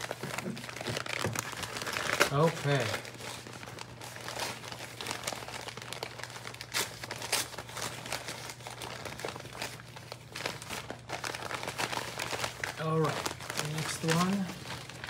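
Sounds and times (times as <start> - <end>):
packing material crinkling: 0.0 - 15.0.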